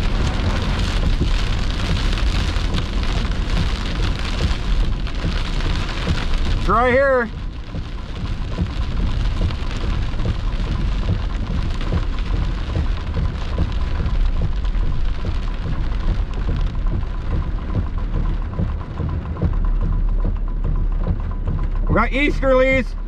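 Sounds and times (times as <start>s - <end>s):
car low rumble: 0.0s - 23.0s
heavy rain on car windshield: 0.0s - 23.0s.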